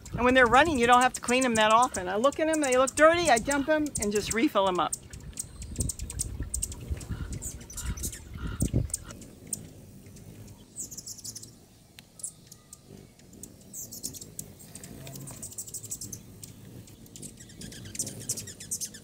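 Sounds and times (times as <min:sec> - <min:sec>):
birds chirping high-pitched: 0:00.0 - 0:19.0.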